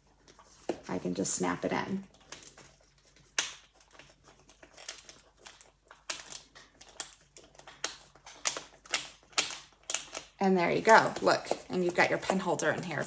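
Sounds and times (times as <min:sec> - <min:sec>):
clicks and crinkling: 0:00.0 - 0:13.0.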